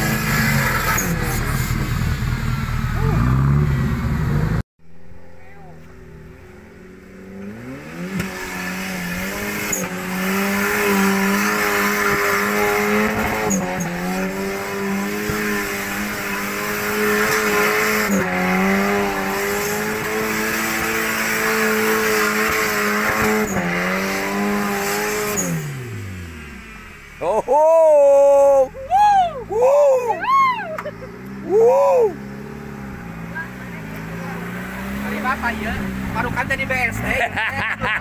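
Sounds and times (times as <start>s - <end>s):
engine revving at high revs: 0.0s - 4.6s, 6.7s - 27.0s, 32.3s - 38.0s.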